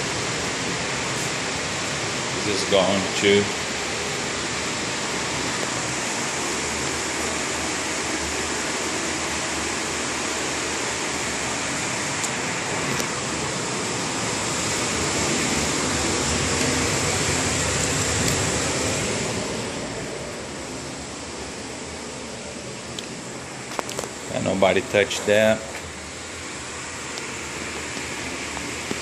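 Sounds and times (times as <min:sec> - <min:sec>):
fans rushing air: 0:00.0 - 0:29.0.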